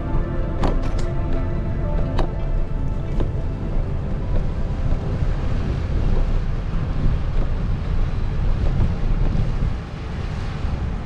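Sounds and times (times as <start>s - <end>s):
water washing: 0.0s - 11.0s
wind buffeting microphone: 0.0s - 11.0s.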